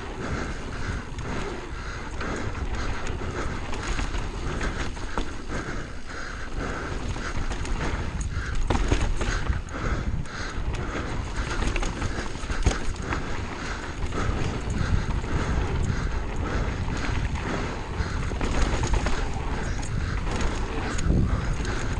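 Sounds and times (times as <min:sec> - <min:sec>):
mountain bike tyres rumbling: 0:00.0 - 0:21.9.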